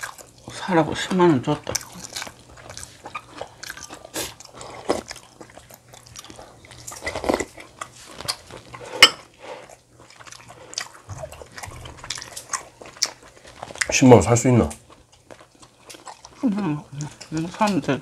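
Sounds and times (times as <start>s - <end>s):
chewing and mouth noises: 0.0s - 18.0s.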